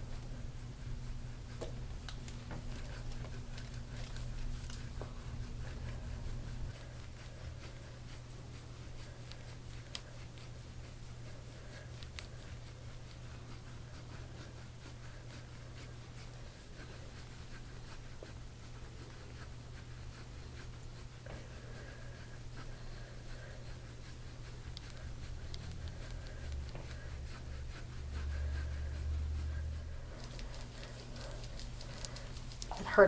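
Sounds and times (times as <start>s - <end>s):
low steady hum: 0.0s - 33.0s
hands rubbing on skin and clothing: 0.6s - 33.0s.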